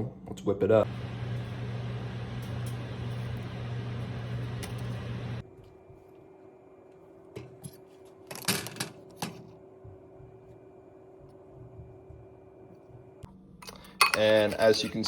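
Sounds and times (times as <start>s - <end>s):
appliance hum: 0.7s - 15.0s.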